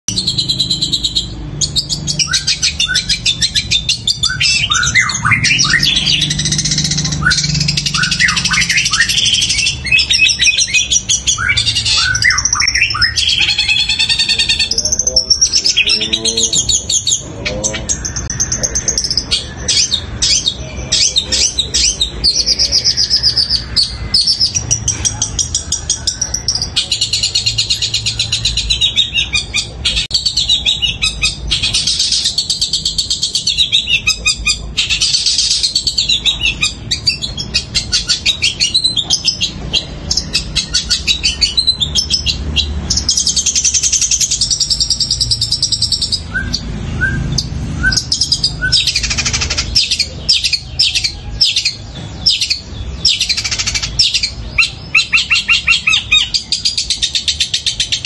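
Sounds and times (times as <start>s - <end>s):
bird chattering song: 0.1s - 58.0s
sparrow chirps: 0.1s - 58.0s.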